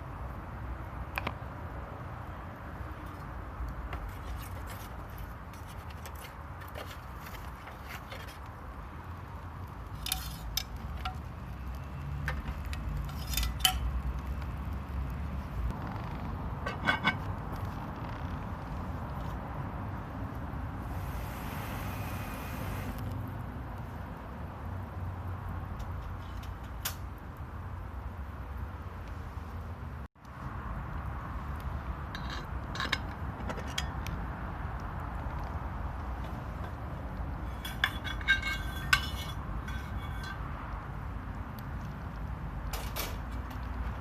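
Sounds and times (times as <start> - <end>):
low fire rumble: 0.0 - 44.0
wood fire crackling: 0.0 - 44.0.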